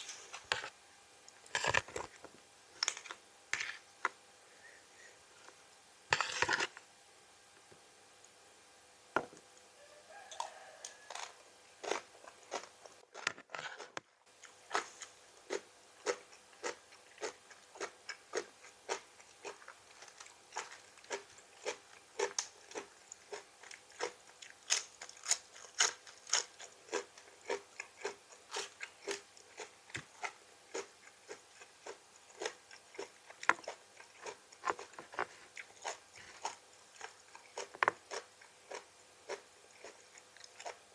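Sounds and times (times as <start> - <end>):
crunchy vegetables being chewed: 0.0 - 2.2, 10.1 - 40.9.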